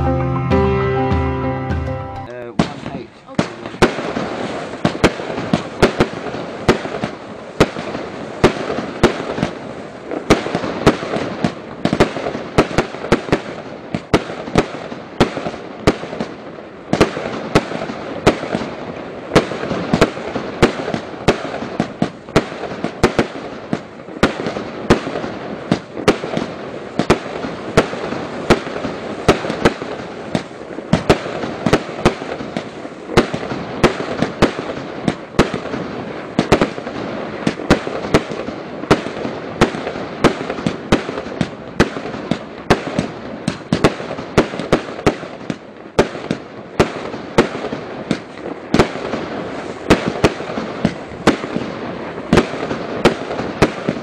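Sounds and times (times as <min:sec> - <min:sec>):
firework crackle: 0:02.3 - 0:54.0
firework shots firing: 0:02.3 - 0:54.0.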